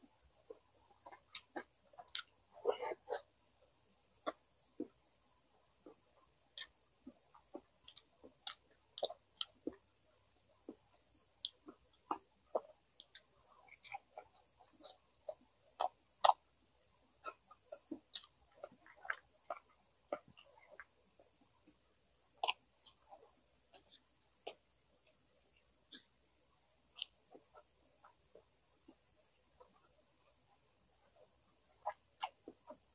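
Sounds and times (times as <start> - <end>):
chewing and lip smacks: 0.5 - 3.2, 5.8 - 16.5, 17.2 - 26.2, 26.9 - 32.9.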